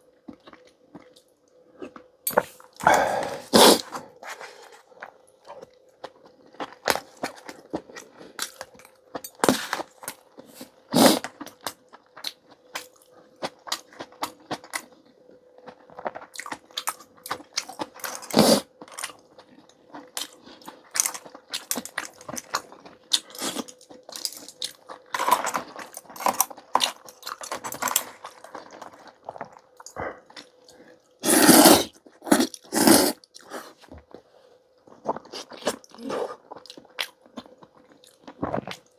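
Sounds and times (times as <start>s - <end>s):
person chewing food: 0.3s - 38.9s.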